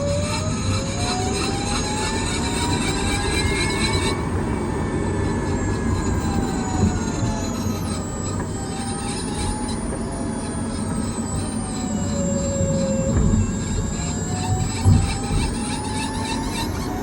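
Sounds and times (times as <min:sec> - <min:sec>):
high whistle: 0:00.0 - 0:17.0
thin whining tones: 0:00.0 - 0:17.0.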